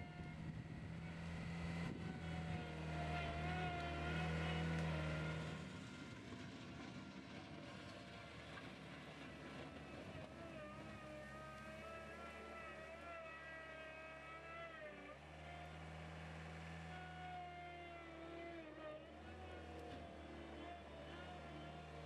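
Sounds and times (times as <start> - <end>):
loader engine hum: 0.0 - 22.0.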